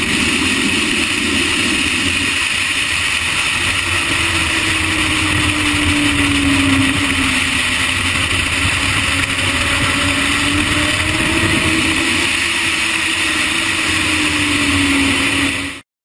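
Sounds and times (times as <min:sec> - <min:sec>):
motorcycle engine running hard: 0:00.0 - 0:15.8
wind rush: 0:00.0 - 0:15.8.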